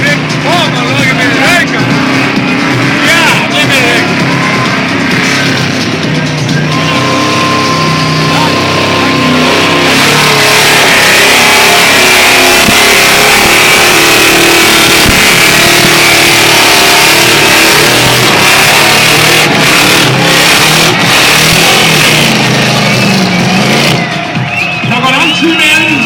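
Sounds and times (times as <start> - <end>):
engine revving high: 0.0 - 24.5
tyres screeching: 0.0 - 26.0.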